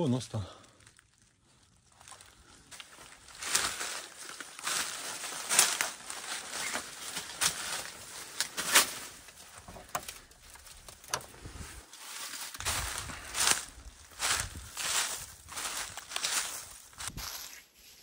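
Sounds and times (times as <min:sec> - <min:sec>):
footsteps crunching over debris: 0:00.3 - 0:18.0.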